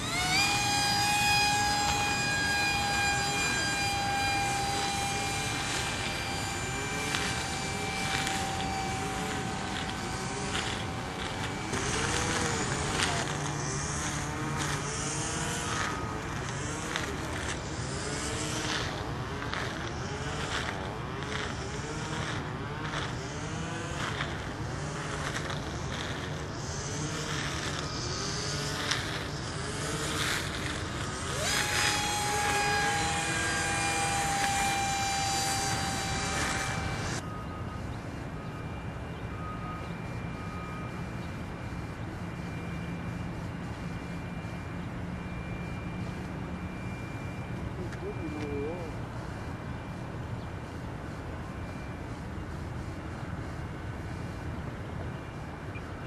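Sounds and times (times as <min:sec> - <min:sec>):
model airplane motors whining: 0:00.0 - 0:56.0
steady higher whine: 0:00.0 - 0:56.0.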